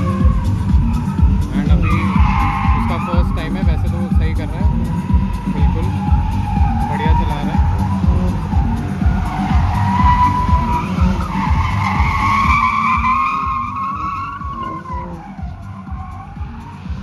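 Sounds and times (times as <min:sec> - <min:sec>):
low engine rumble: 0:00.0 - 0:17.0
tyres squealing: 0:00.0 - 0:17.0.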